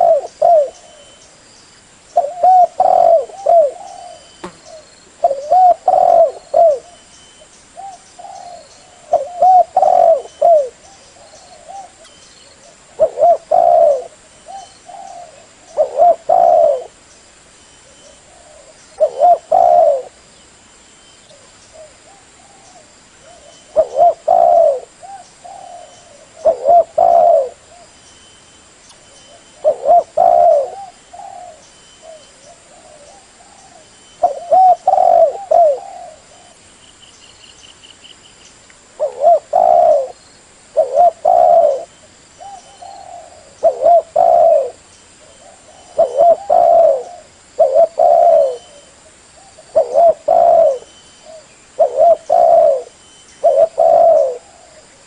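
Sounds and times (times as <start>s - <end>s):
dove cooing: 0.0s - 1.2s, 2.2s - 7.1s, 7.8s - 17.0s, 17.8s - 20.2s, 21.3s - 28.0s, 29.3s - 36.6s, 39.0s - 55.0s.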